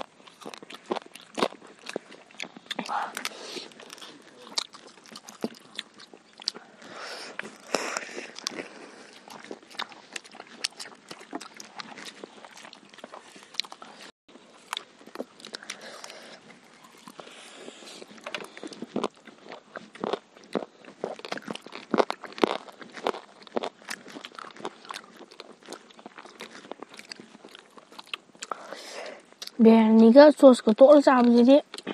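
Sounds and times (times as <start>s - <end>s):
chewing and crunching food: 0.0s - 31.9s.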